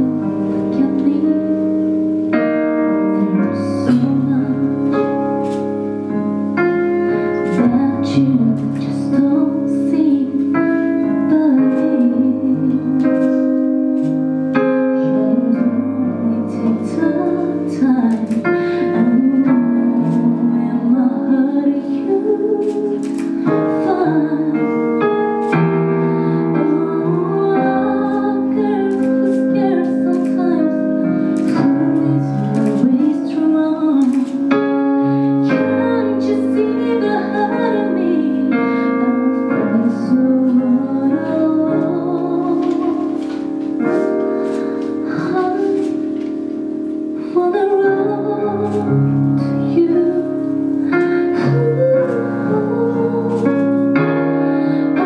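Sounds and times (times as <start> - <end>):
woman singing a slow song: 0.0 - 2.2, 2.9 - 5.3, 7.3 - 13.6, 14.7 - 44.0, 44.9 - 46.3, 47.2 - 55.0
keyboard piano chords: 0.0 - 55.0.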